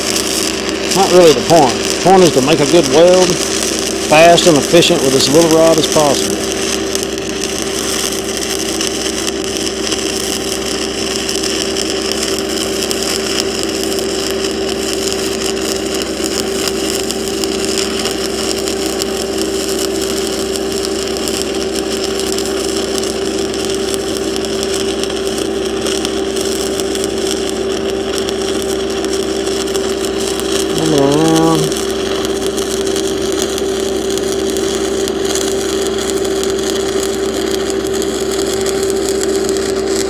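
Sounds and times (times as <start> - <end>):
machine hum: 0.0 - 40.0
welding arc crackling and hissing: 0.0 - 40.0.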